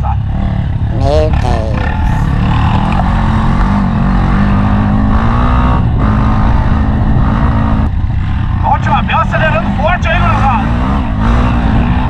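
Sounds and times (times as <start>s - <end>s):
dirt bike engine under throttle: 0.2s - 12.0s.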